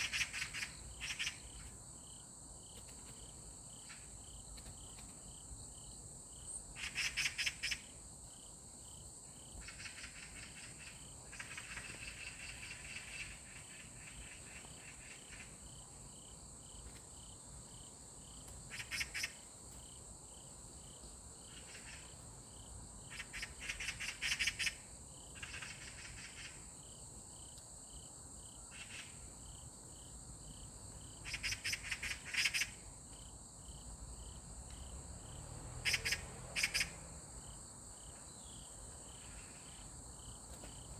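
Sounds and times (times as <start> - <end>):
soft cricket chirps: 0.0 - 40.9.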